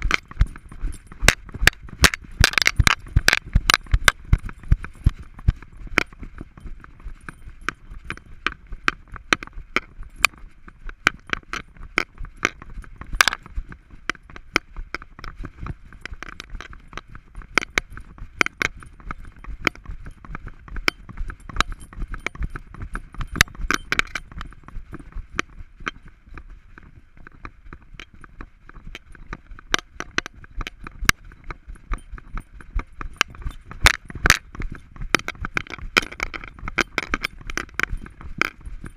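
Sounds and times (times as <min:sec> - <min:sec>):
harness gear clicking and clinking: 0:00.0 - 0:38.9.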